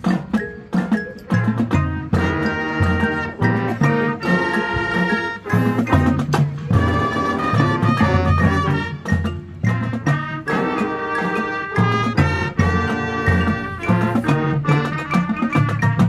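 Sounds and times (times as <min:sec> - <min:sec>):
brass chords: 0:01.3 - 0:16.0.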